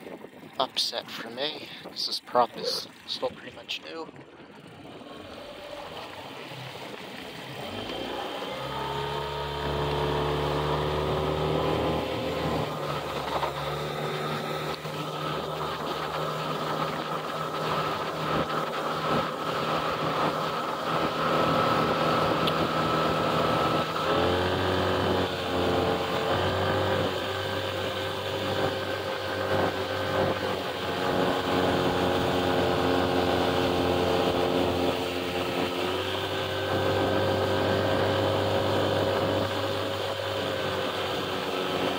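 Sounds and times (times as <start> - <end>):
outboard motor running: 0.0 - 41.9.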